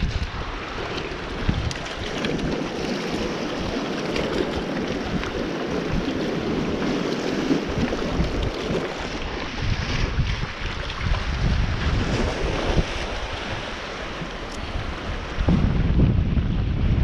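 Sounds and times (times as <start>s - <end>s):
water lapping: 0.0s - 15.6s
wind buffeting microphone: 0.0s - 17.0s.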